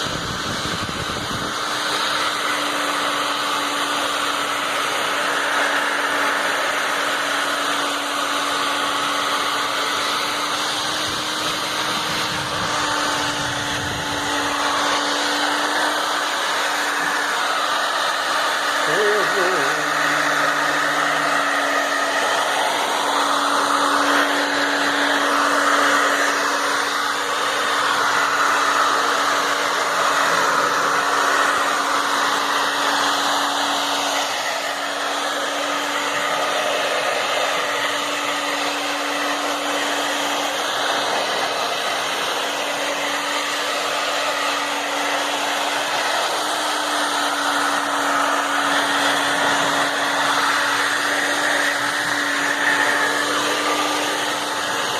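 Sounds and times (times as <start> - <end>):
hair dryer running: 0.0 - 54.9.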